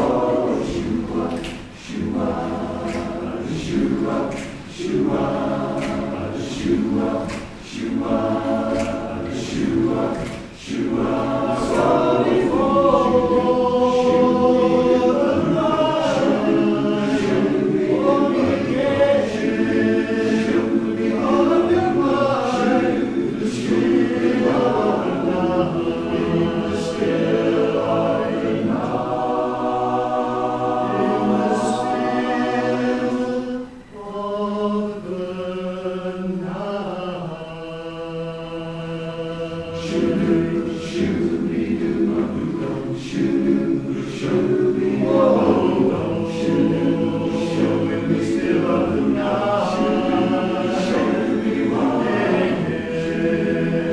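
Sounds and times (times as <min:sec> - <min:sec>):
barbershop chorus singing a cappella: 0:00.0 - 0:53.9.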